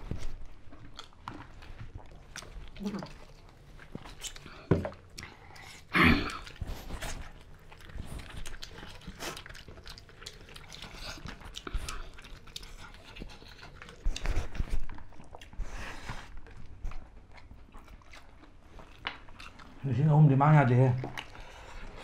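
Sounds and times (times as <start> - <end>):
wet chewing and smacking: 0.0 - 22.0.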